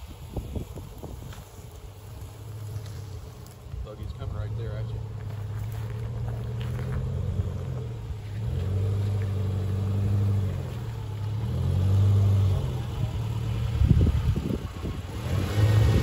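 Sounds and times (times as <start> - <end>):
car engine running: 2.0 - 16.0.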